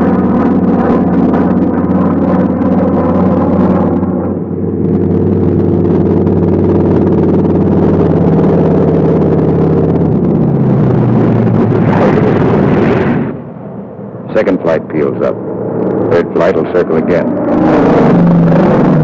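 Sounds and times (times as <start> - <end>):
piston aircraft engine droning: 0.0 - 19.0.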